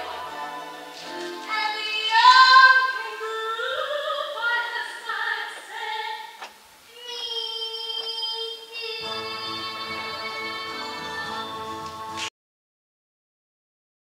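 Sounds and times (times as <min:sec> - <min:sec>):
young female voices singing: 0:00.0 - 0:11.8.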